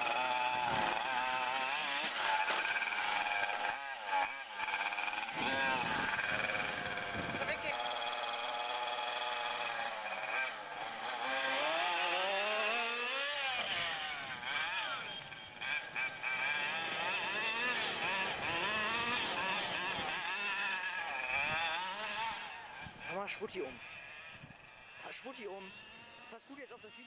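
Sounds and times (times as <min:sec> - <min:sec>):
two-stroke engine revving: 0:00.0 - 0:27.0.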